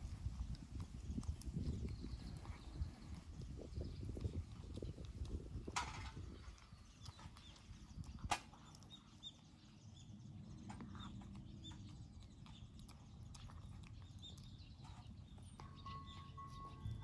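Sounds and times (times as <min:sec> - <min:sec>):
cat chewing food: 0:00.0 - 0:17.0
small chirps: 0:00.1 - 0:17.0.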